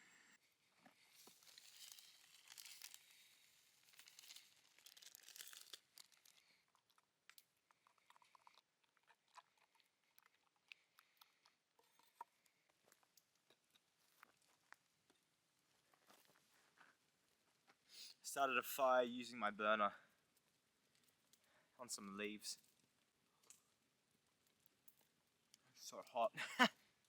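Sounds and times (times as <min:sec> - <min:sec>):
faint rustling and crinkling: 0:00.0 - 0:18.5, 0:19.9 - 0:27.0.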